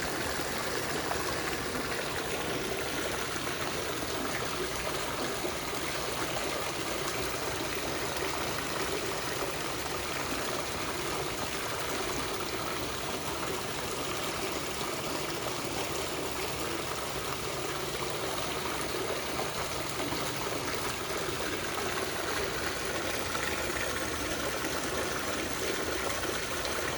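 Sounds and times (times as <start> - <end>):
fountain water trickling and splashing: 0.0 - 26.9.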